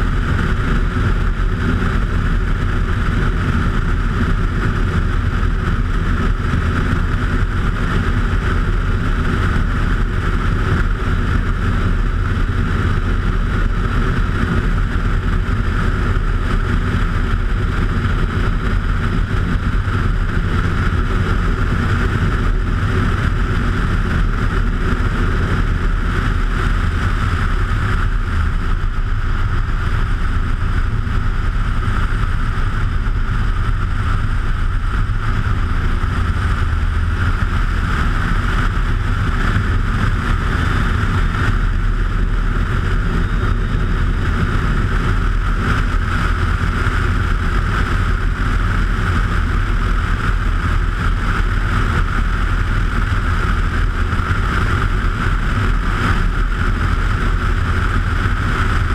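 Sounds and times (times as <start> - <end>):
airplane engine droning: 0.0 - 58.9
wind rushing over camera: 0.0 - 58.9.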